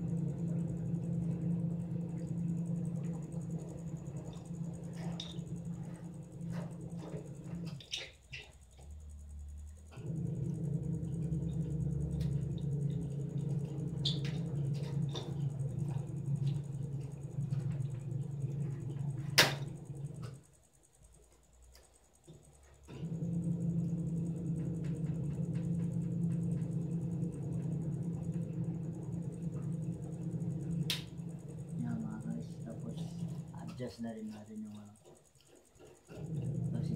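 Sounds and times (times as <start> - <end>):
washing machine motor humming: 0.0 - 21.0, 22.0 - 36.9.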